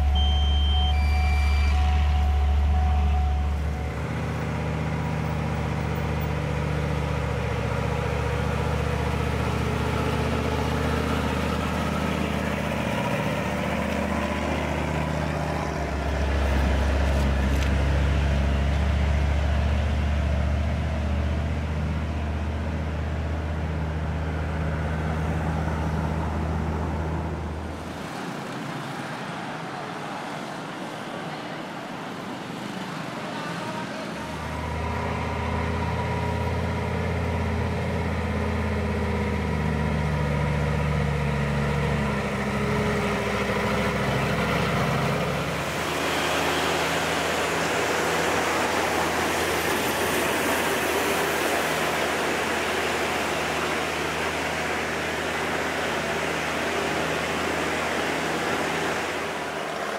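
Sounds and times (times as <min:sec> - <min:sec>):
truck engine humming: 0:00.0 - 0:28.8, 0:32.2 - 0:59.9
road traffic: 0:00.0 - 0:59.9
wind and road noise: 0:00.0 - 0:59.9.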